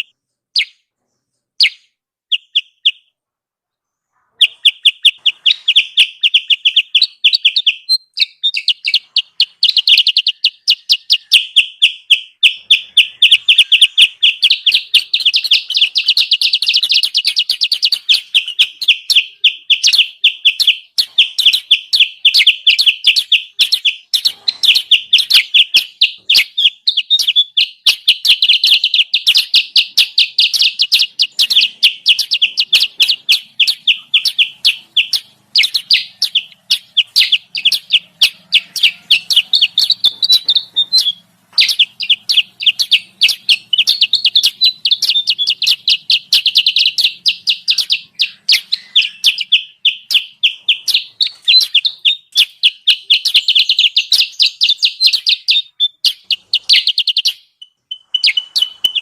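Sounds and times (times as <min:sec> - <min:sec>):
bird chattering high chirps: 0:00.0 - 0:00.9, 0:01.6 - 0:03.1, 0:03.9 - 0:59.0.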